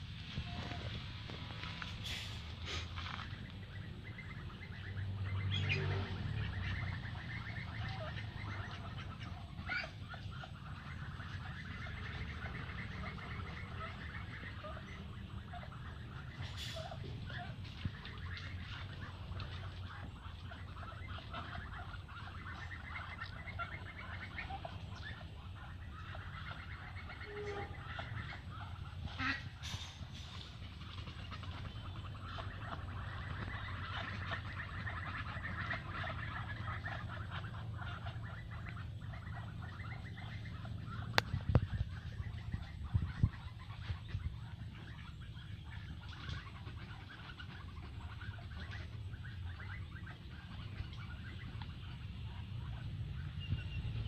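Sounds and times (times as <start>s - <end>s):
ducks chirping: 0.0s - 54.0s.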